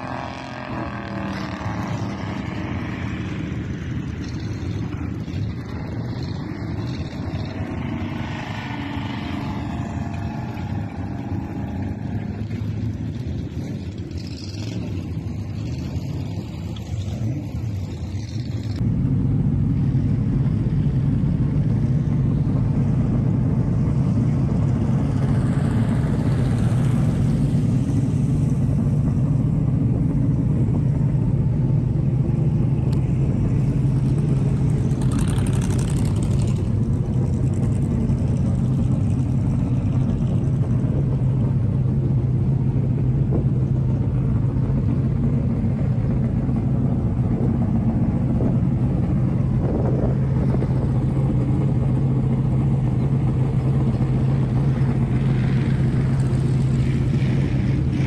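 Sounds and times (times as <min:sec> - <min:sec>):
steady low engine noise: 0:00.0 - 0:58.0
stock car engines passing: 0:00.0 - 0:58.0.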